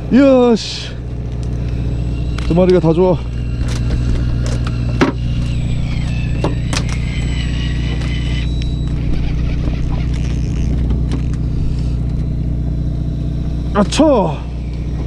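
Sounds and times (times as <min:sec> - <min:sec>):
boat engine drone: 0:00.0 - 0:15.0
electric fishing reel whining: 0:00.0 - 0:15.0.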